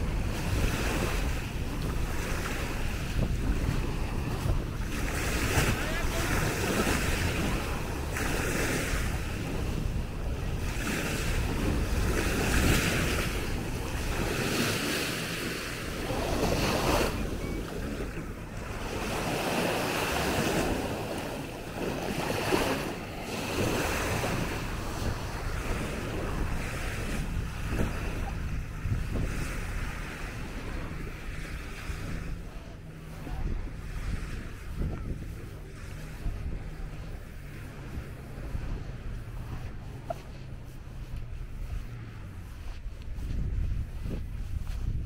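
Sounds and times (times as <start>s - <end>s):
small waves lapping on sand: 0.0s - 45.0s
wind rumbling on microphone: 0.0s - 45.0s.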